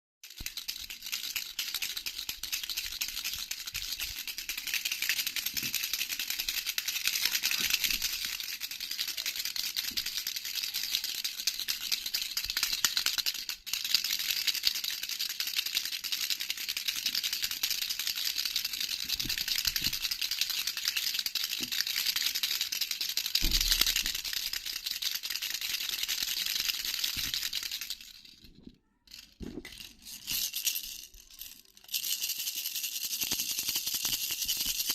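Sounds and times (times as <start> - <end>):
rattle with bells jingling: 0.3 - 28.5, 29.1 - 34.9.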